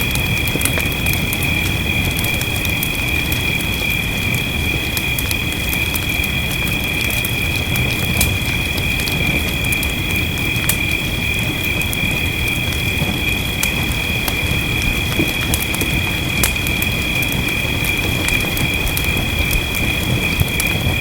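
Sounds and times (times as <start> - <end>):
rain rushing: 0.0 - 21.0
wood fire crackling and popping: 0.0 - 21.0.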